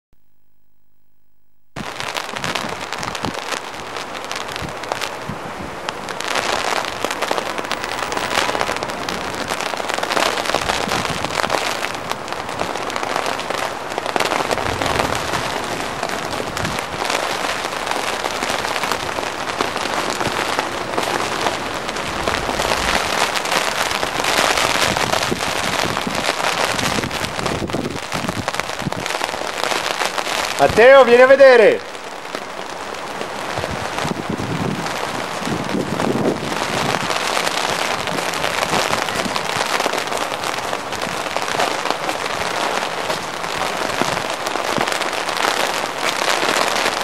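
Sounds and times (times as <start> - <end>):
snow pattering on surfaces: 1.8 - 47.0.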